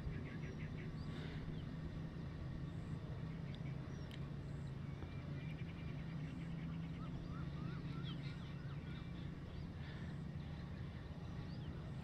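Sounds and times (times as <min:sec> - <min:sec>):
distant bird chirps: 0:00.0 - 0:12.0
steady low hum: 0:00.0 - 0:12.0.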